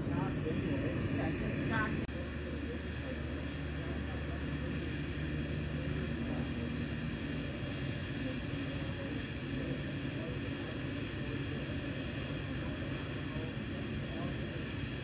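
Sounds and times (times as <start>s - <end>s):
welding arc humming and hissing: 0.0s - 15.0s.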